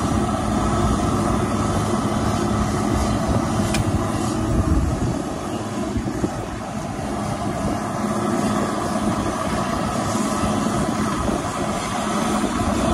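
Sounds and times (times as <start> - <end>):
crane diesel engine running: 0.0 - 12.9.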